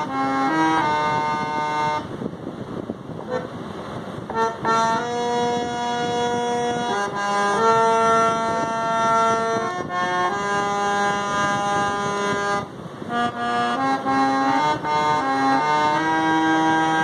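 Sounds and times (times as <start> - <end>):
harmonium playing slow melody: 0.0 - 2.2, 4.2 - 17.0.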